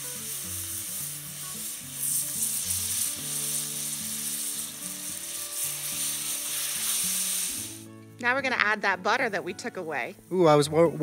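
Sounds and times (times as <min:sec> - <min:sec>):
butter sizzling in pot: 0:00.0 - 0:11.0.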